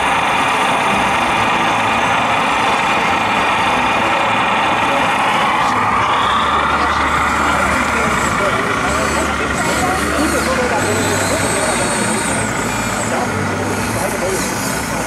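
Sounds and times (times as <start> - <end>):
model excavator drone and whine: 0.0 - 15.0.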